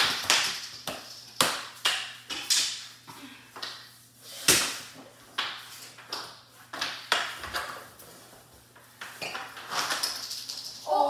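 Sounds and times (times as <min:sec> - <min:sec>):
hockey sticks knocking on wooden floor: 0:00.0 - 0:02.9, 0:03.5 - 0:10.7.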